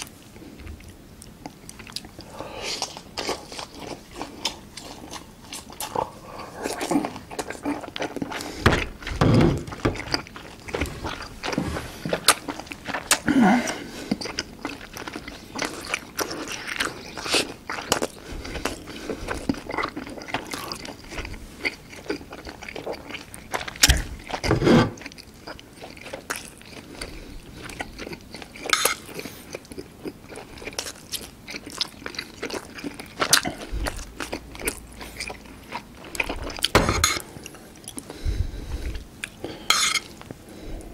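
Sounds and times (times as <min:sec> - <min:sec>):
person chewing noodles: 0:00.0 - 0:40.9.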